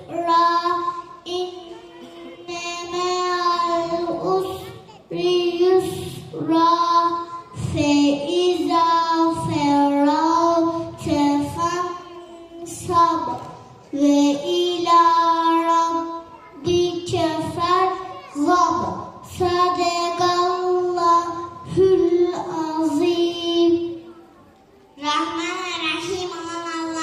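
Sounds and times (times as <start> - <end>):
child singing slow melody: 0.0 - 24.1.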